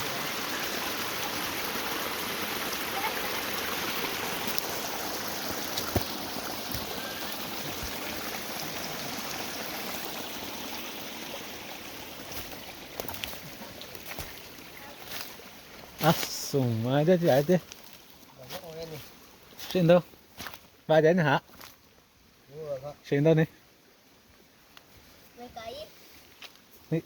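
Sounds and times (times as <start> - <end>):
stream water flowing: 0.0 - 27.0.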